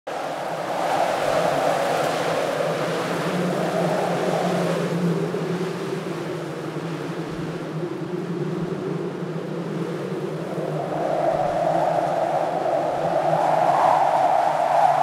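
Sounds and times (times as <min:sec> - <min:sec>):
wind blowing: 0:00.1 - 0:15.0.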